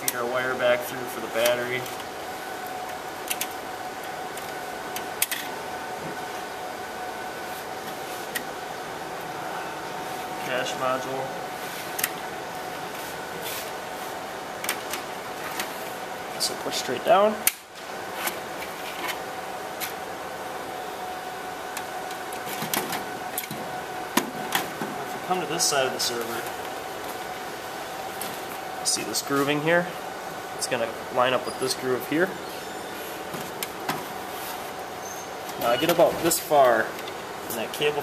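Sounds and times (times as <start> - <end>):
steady background hum: 0.0 - 38.0.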